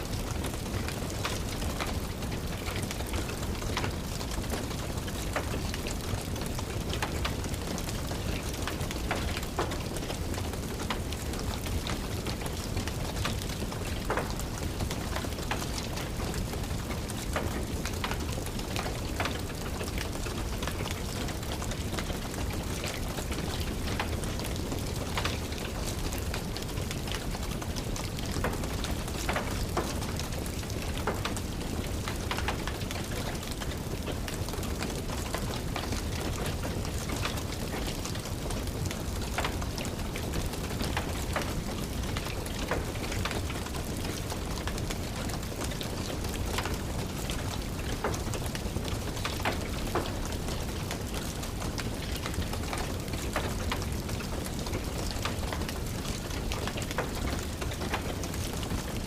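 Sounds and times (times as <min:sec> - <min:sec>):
steady rain: 0:00.0 - 0:59.0
wood fire crackling: 0:00.1 - 0:59.0.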